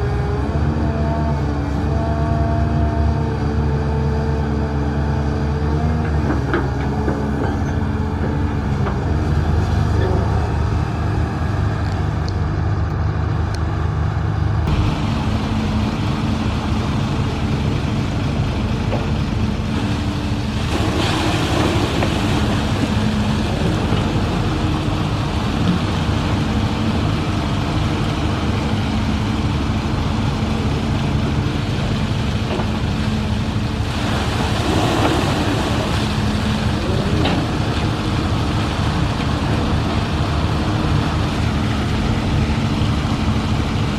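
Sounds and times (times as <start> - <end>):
construction machinery diesel engine: 0.0 - 43.9.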